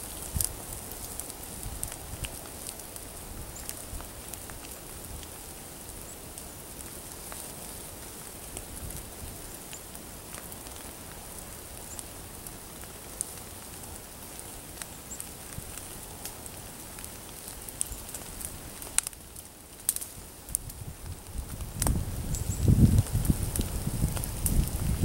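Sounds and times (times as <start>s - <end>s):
fire crackles and pops: 0.0s - 25.0s
wood fire hissing: 0.0s - 25.0s.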